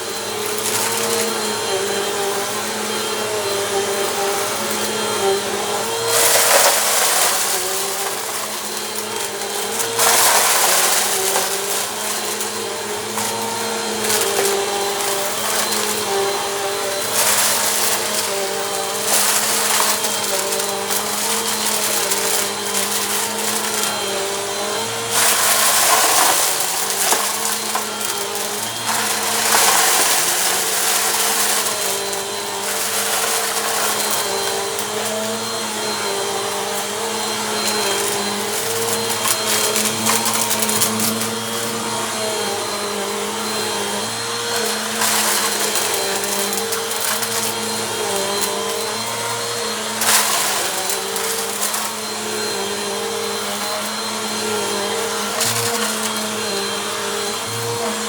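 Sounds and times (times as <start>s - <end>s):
vacuum cleaner motor hum: 0.0s - 58.0s.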